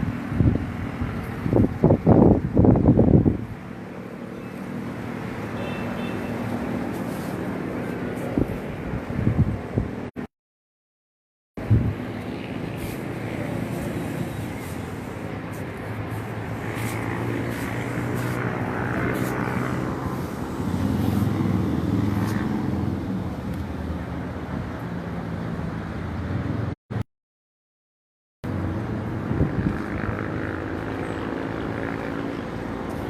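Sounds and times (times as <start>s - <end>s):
airplane flying over: 0.0s - 10.2s, 11.6s - 26.8s, 28.5s - 33.0s.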